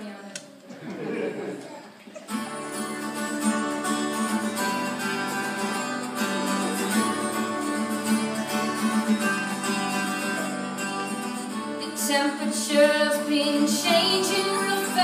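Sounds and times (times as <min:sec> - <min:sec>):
acoustic guitar strumming: 0:02.3 - 0:15.0.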